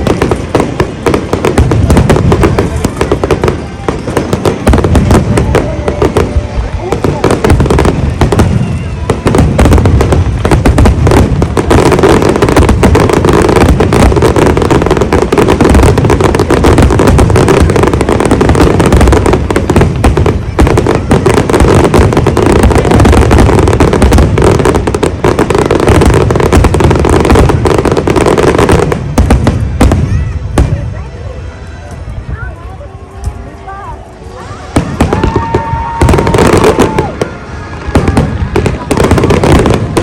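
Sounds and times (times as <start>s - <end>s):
fireworks booming and crackling: 0.0s - 40.0s.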